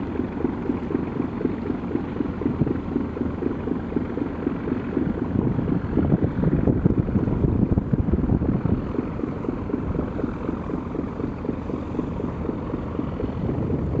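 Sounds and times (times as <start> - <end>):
boat diesel engine rumble: 0.0 - 14.0
wind buffeting microphone: 0.0 - 14.0.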